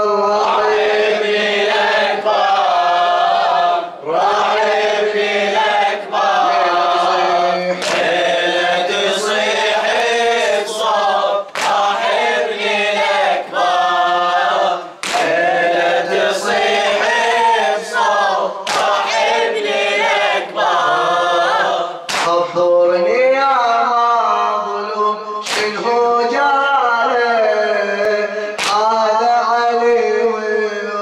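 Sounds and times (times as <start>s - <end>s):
voices singing mourning chant: 0.0s - 31.0s.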